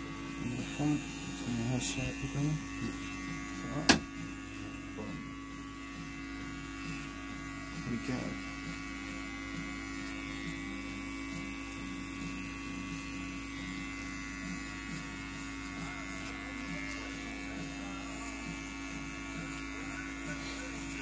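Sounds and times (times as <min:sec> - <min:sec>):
electric hair clippers humming: 0:00.0 - 0:21.0.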